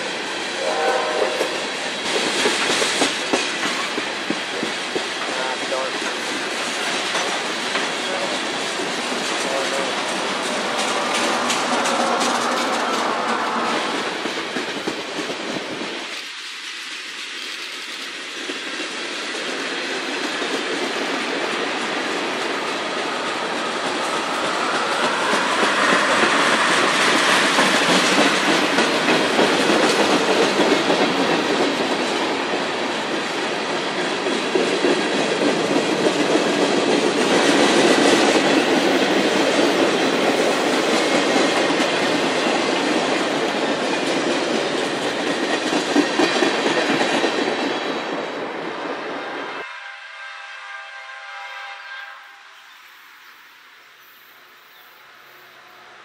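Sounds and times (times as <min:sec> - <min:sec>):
train wheels rumbling on rails: 0:00.0 - 0:49.7.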